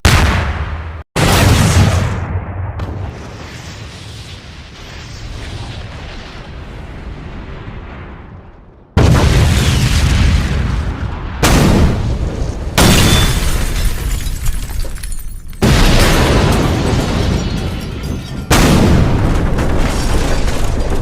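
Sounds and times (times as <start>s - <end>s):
explosion booms with rumble: 0.0s - 13.7s, 15.6s - 21.0s.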